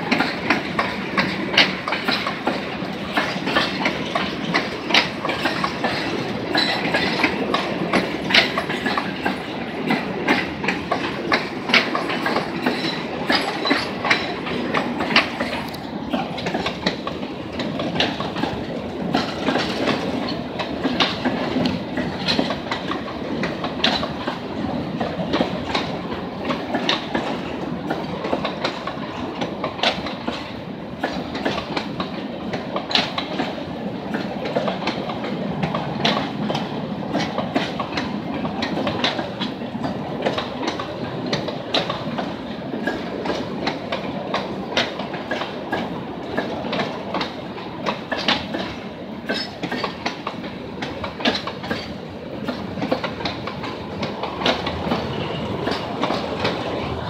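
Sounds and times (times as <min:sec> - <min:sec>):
freight train wheels rumbling: 0:00.0 - 0:57.0
wheels clickety-clack: 0:00.0 - 0:57.0.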